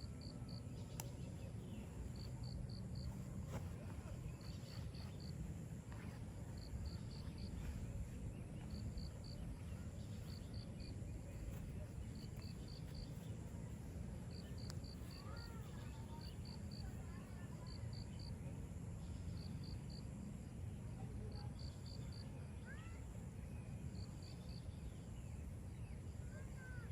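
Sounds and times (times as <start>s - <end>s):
low rumble background noise: 0.0s - 26.9s.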